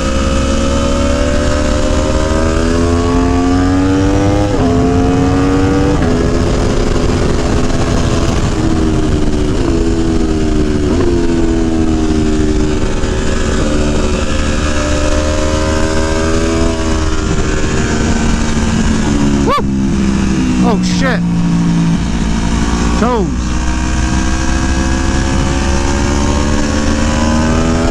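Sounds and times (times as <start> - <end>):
motorcycle engine running hard: 0.0 - 27.9.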